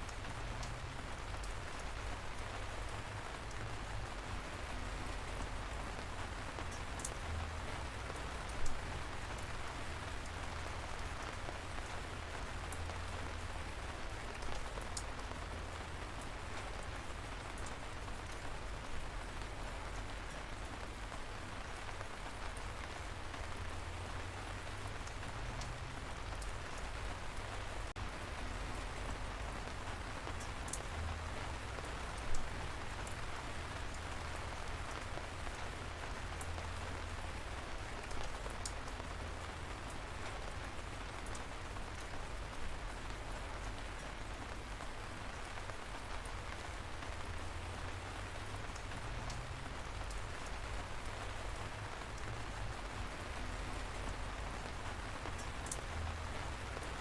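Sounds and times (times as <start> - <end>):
light rain falling: 0.0 - 57.0
raindrops pattering nearby: 0.0 - 57.0.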